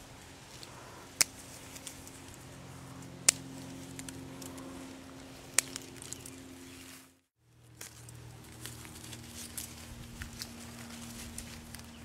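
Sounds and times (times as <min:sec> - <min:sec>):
foliage rustling: 0:00.0 - 0:12.0
steady low hum: 0:00.0 - 0:12.0
pruning shears snipping: 0:00.5 - 0:12.0.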